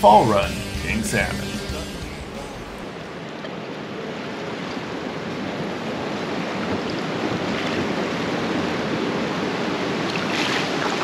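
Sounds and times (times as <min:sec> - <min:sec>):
water rushing and splashing: 0:01.2 - 0:11.0.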